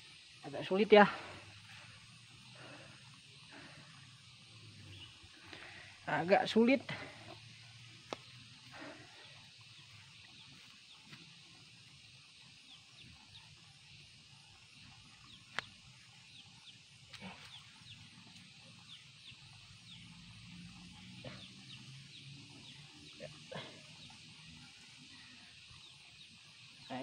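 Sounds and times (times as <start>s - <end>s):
bird chirping: 1.7s - 6.7s, 7.3s - 27.0s.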